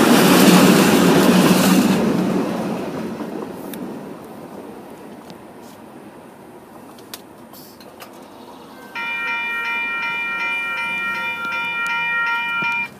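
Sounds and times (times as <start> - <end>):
freight train running: 0.0 - 12.9.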